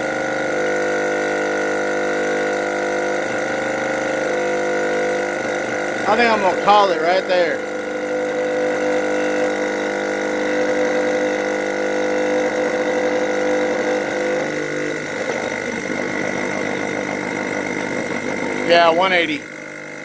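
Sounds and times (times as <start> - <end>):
air compressor running: 0.0 - 20.0
rough mechanical noise: 0.0 - 20.0.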